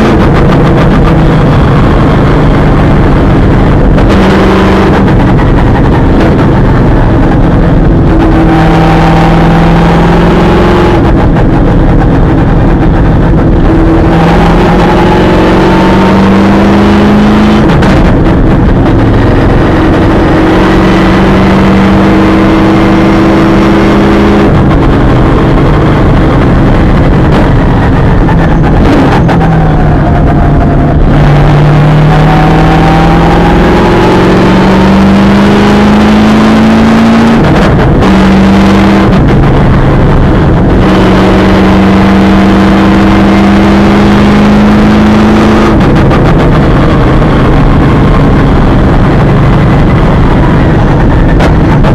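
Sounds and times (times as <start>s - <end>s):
race car engine running hard: 0.0s - 51.9s.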